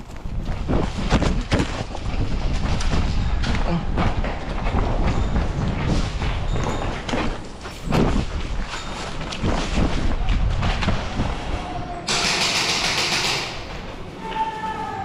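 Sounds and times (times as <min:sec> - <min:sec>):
running footsteps: 0:00.0 - 0:14.8.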